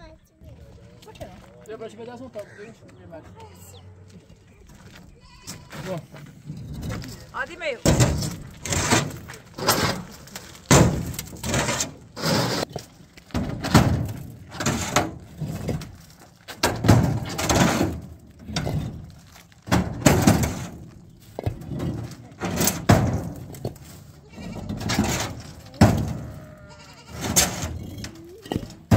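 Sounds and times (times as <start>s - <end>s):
concrete blocks knocking and scraping: 4.1s - 28.9s.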